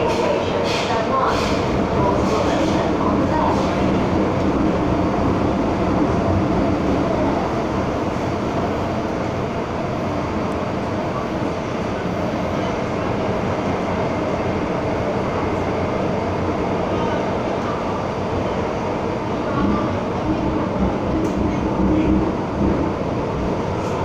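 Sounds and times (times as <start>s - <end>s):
subway train rumbling in tunnel: 0.0s - 24.0s.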